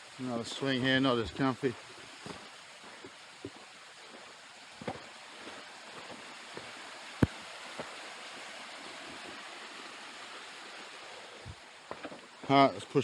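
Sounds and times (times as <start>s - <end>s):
rushing water of rapids: 0.0s - 13.0s.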